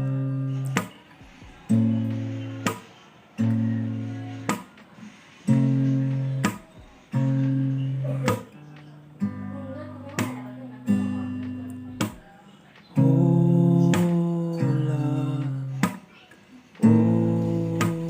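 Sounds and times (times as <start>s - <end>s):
acoustic guitar strummed chords: 0.0s - 18.0s.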